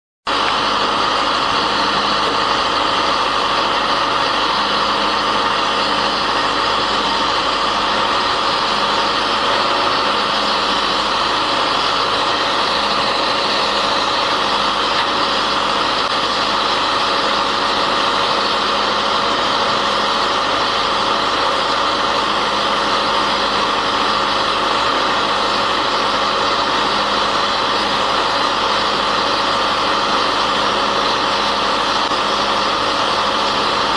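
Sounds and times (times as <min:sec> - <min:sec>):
drilling rig engine droning: 0:00.3 - 0:33.9.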